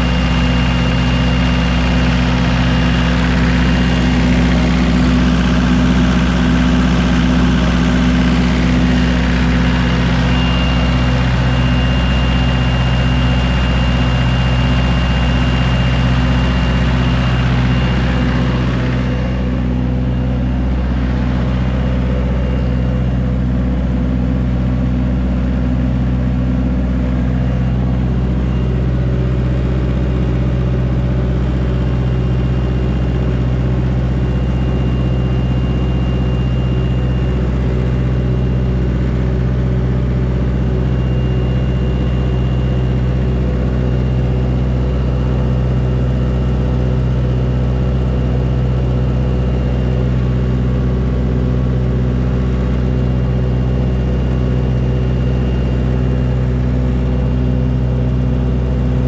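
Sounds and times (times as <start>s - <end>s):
diesel generator running: 0.0s - 59.0s.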